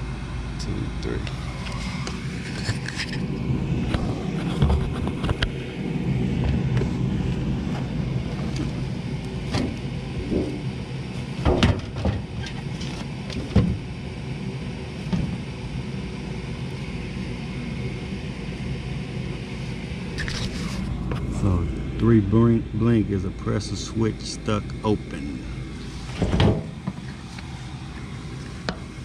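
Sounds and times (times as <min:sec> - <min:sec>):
furnace inducer motor humming: 0:00.0 - 0:29.0.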